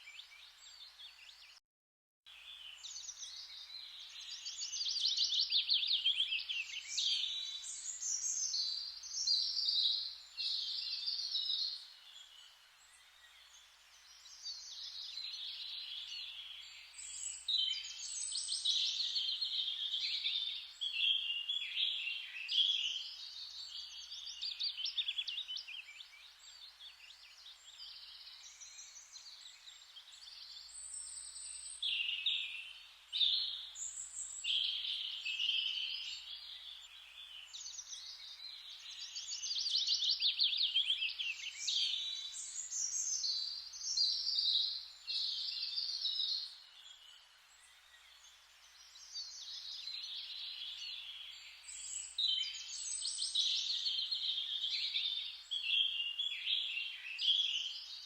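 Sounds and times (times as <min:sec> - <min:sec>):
songbirds chirping and trilling: 0:00.0 - 0:01.6, 0:02.3 - 0:58.0
soft hiss: 0:02.4 - 0:58.0.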